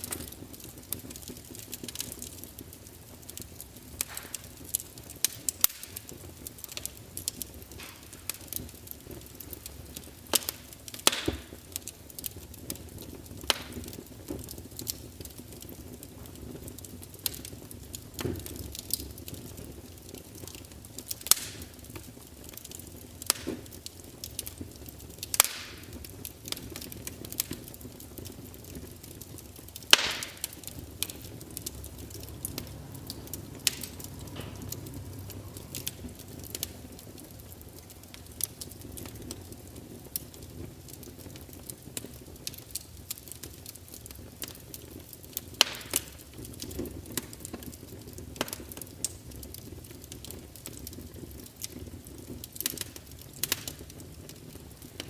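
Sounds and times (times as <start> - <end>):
burning wood crackling: 0.0 - 55.0
low rumble of flame: 0.0 - 55.0.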